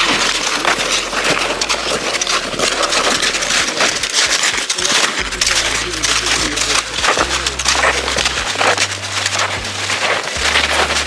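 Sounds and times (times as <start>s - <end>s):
snowshoes crunching through snow: 0.0s - 11.0s.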